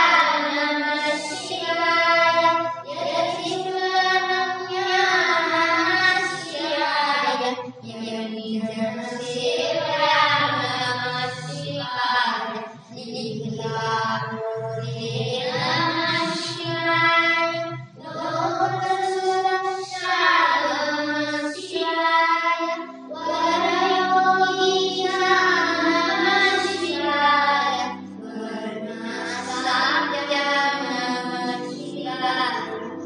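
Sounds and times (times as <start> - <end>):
boys singing devotional song: 0.0 - 33.0.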